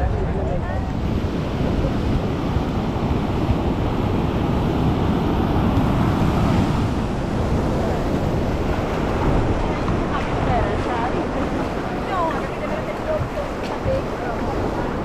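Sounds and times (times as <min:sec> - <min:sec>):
wind buffeting microphone: 0:00.0 - 0:15.0
surf breaking on beach: 0:00.2 - 0:15.0.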